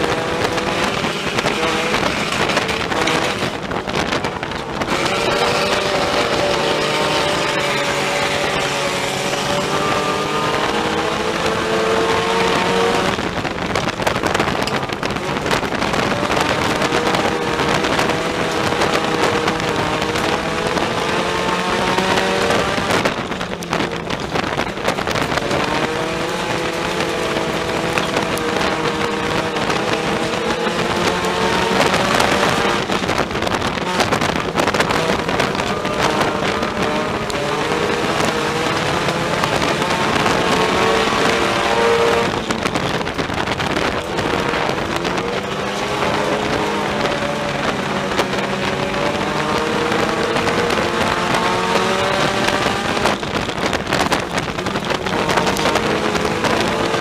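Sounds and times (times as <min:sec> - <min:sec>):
constant rushing noise: 0:00.0 - 0:57.0
race car engine revving: 0:00.0 - 0:57.0.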